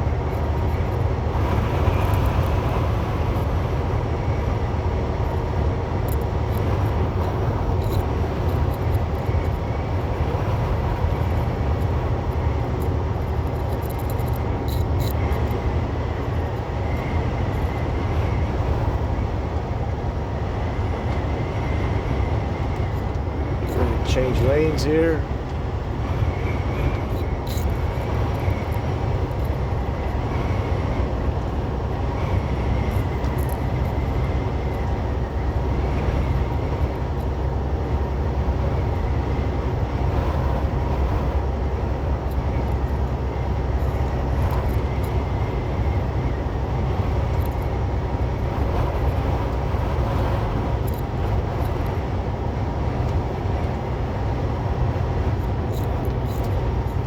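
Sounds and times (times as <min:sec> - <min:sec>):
road and wind noise: 0:00.0 - 0:57.0
truck engine drone: 0:00.0 - 0:57.0.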